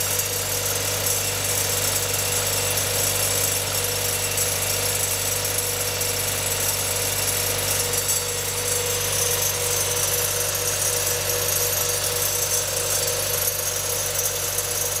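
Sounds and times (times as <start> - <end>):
abnormal engine accessory noise: 0.0 - 15.0
car engine running: 2.5 - 15.0.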